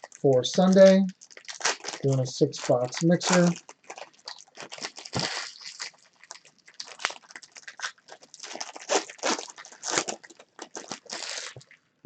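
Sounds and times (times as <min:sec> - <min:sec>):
card pack wrappers crinkling: 0:00.0 - 0:11.8.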